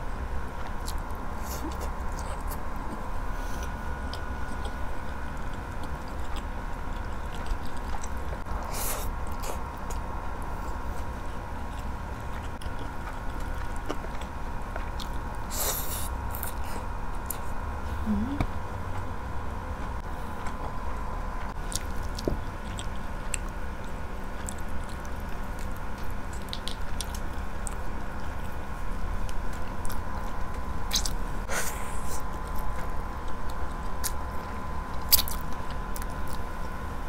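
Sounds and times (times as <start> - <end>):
faint high hum: 0.0 - 37.0
person chewing food: 0.5 - 17.6, 19.8 - 36.8.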